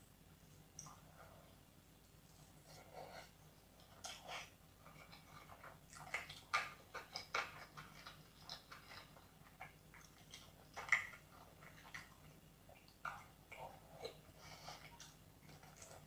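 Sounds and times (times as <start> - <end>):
chewing with wet smacks and crunches: 2.7 - 16.0.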